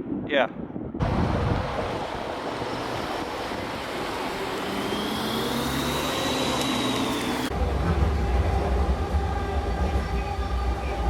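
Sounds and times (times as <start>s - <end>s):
passing train rumble: 1.0s - 11.0s
road traffic noise: 1.0s - 11.0s.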